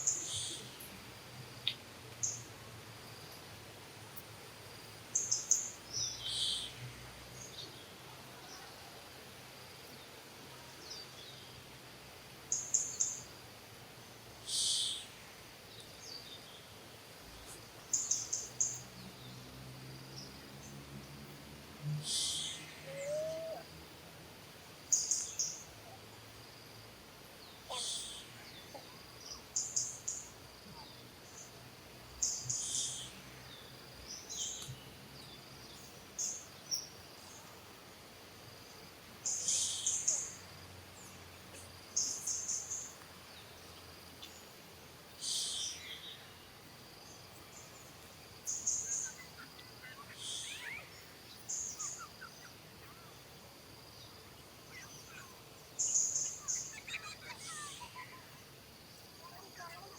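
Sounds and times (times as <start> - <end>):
faint high insect whine: 0.0 - 59.9.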